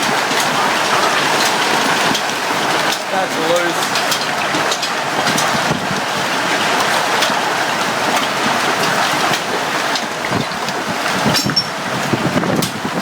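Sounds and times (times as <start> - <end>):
hail clattering: 0.0 - 13.0.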